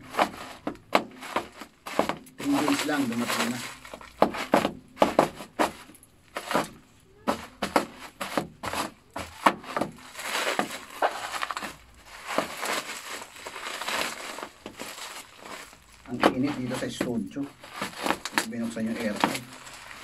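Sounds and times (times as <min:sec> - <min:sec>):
bubble wrap and tape crackling: 0:00.0 - 0:20.0.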